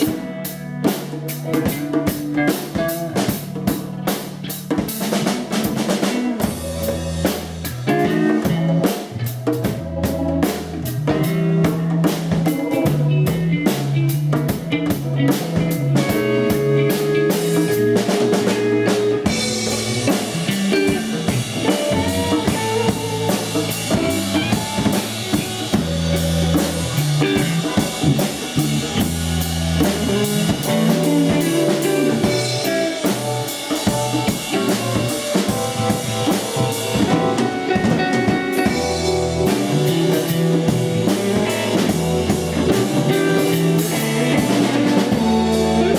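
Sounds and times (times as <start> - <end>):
drum kit beat: 0.0 - 45.9
held bass notes: 0.0 - 45.9.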